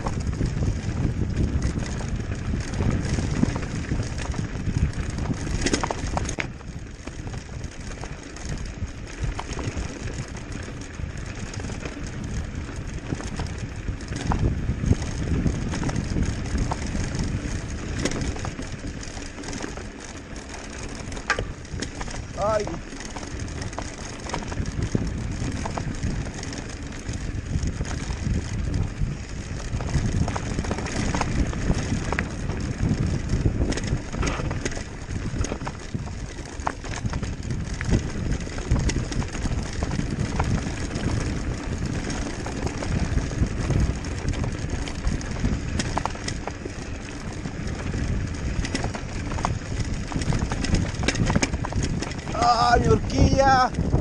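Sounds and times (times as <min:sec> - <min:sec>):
bike rattling: 0:00.0 - 0:54.0
tyres crunching over loose stones: 0:00.0 - 0:54.0
wind rumble on microphone: 0:00.0 - 0:54.0.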